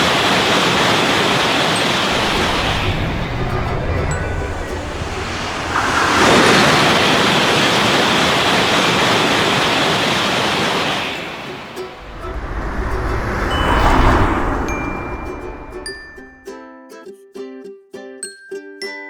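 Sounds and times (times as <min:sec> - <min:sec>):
train rushing past: 0:00.0 - 0:16.5.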